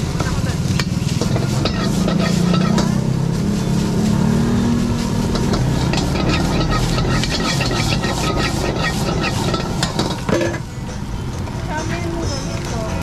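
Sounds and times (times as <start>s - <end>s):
light sizzle: 0.0s - 10.6s
ladle scraping a wok: 0.0s - 10.7s
gas burner rumble: 0.0s - 10.8s.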